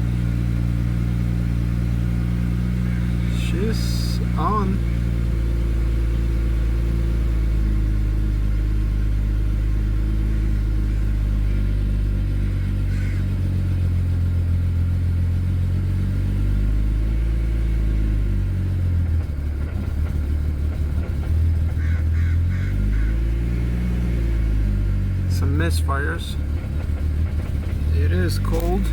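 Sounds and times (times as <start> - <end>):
car engine idling roughly: 0.0 - 15.8, 17.9 - 28.9.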